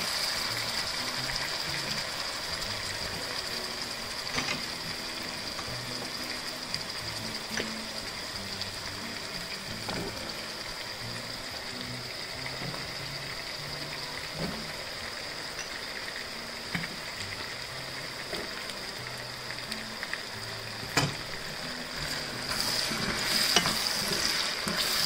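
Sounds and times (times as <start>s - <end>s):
soft background music: 0.0s - 25.0s
vegetables sizzling in a pan: 0.0s - 25.0s.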